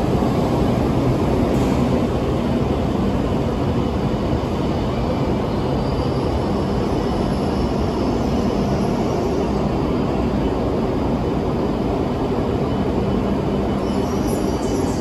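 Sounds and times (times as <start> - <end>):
train rumble and rush: 0.0 - 15.0.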